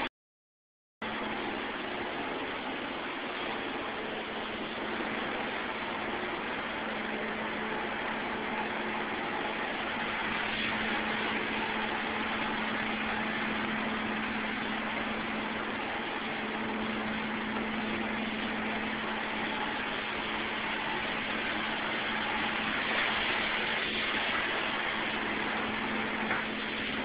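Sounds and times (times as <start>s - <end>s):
machinery hum and hiss: 1.0s - 27.0s.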